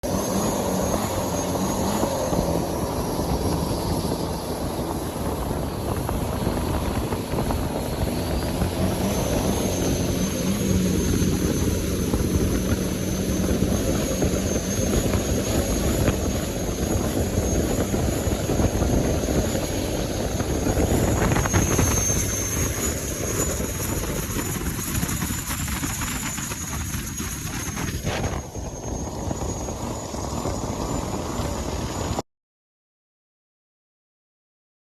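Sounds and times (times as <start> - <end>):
boat engine running: 0.0 - 32.2.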